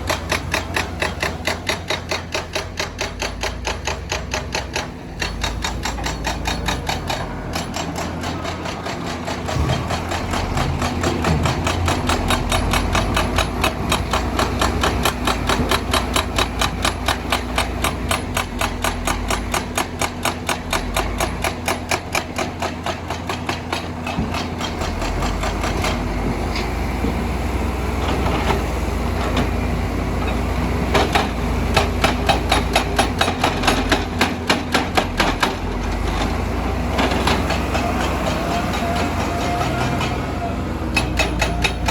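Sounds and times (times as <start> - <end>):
diesel engine running: 0.0 - 41.9
hydraulic breaker hammering stone: 0.1 - 26.0, 31.0 - 36.4, 37.0 - 41.9.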